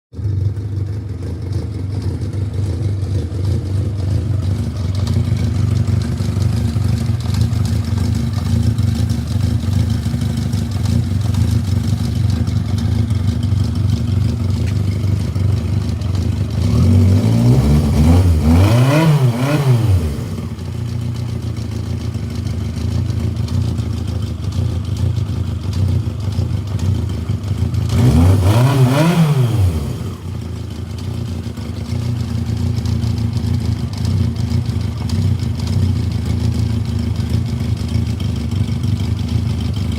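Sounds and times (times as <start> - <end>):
engine knock: 0.1 - 39.9
motorcycle engine idling and revving: 0.1 - 39.9.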